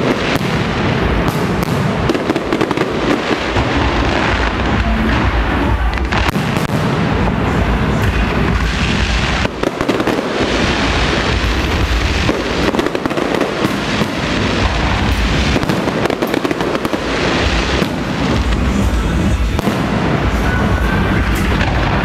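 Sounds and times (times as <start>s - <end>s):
fireworks bursts and crackling: 0.0s - 22.0s.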